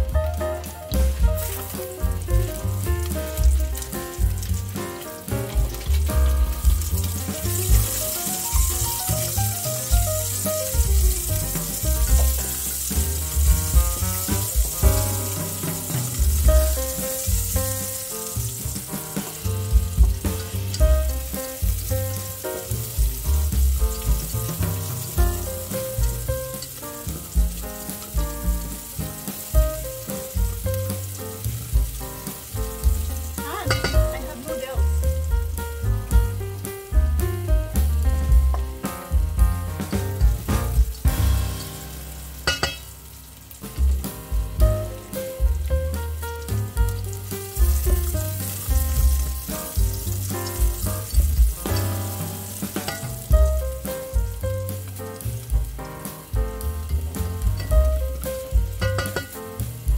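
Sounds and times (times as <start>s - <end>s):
background music with bass beat: 0.0s - 42.8s, 43.6s - 59.9s
food sizzling in hot oil: 0.0s - 59.9s.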